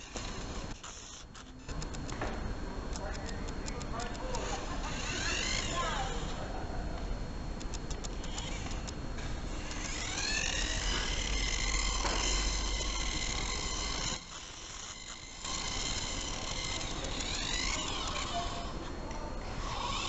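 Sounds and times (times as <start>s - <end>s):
toy car electric motor whining: 0.0s - 2.0s, 3.7s - 6.4s, 7.7s - 20.0s.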